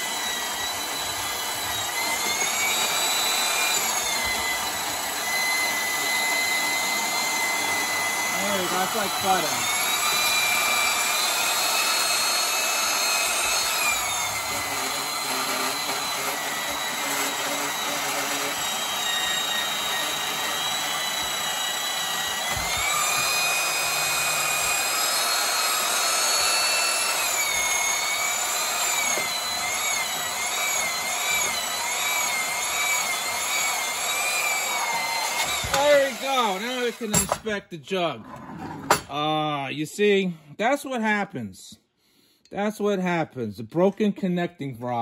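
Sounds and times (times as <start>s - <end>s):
power tool whining while cutting: 0.0s - 37.4s.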